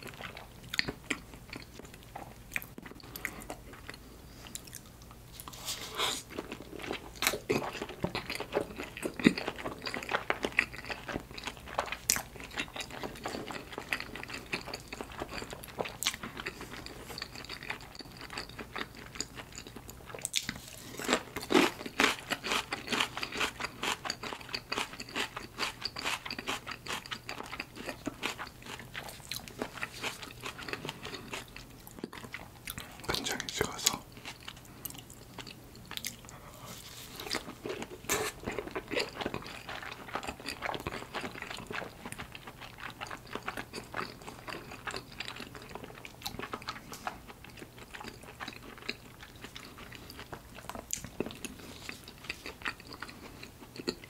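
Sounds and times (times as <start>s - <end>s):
close chewing with wet mouth sounds: 0.0s - 54.0s.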